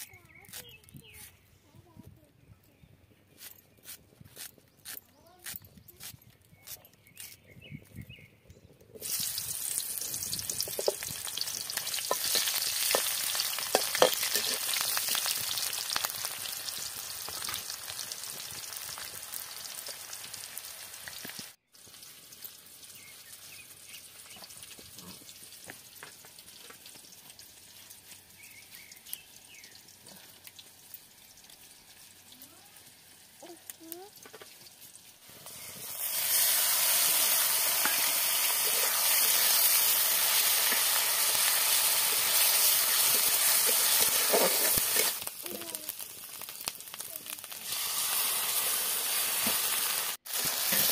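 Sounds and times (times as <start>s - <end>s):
onions sizzling in hot oil: 9.0s - 29.7s, 30.3s - 50.9s.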